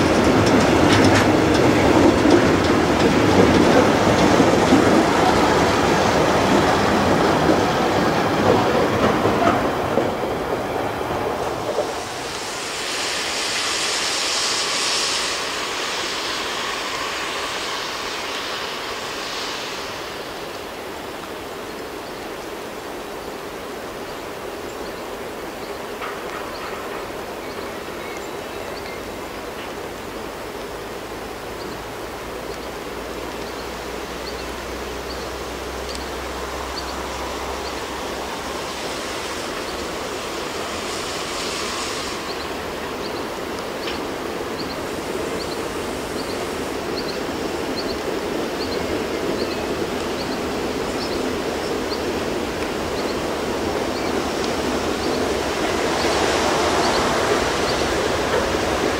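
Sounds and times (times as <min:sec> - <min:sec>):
freight train rumbling: 0:00.0 - 0:58.9
heavy rain hissing: 0:00.0 - 0:58.9.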